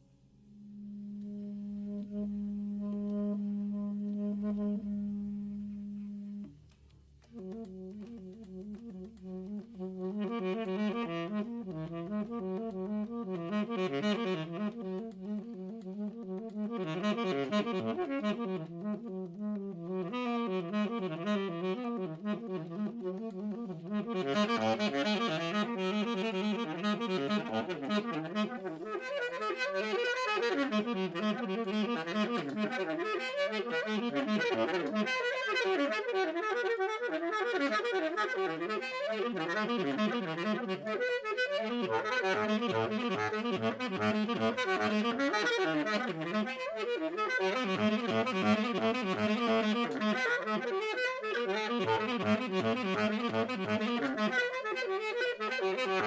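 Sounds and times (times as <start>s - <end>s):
free jazz quartet: 0.4s - 56.0s
saxophone playing fast lines: 0.4s - 56.0s.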